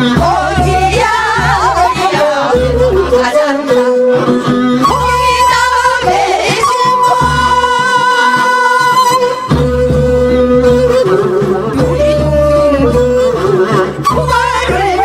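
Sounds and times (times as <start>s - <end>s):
women singing together: 0.0s - 9.5s, 11.8s - 15.0s.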